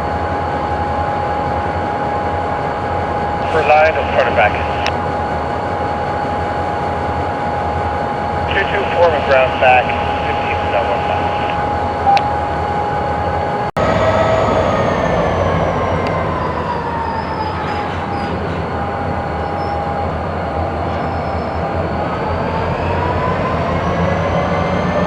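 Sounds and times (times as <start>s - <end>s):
locomotive whine: 0.0s - 25.0s
rail cars rumbling: 0.0s - 25.0s.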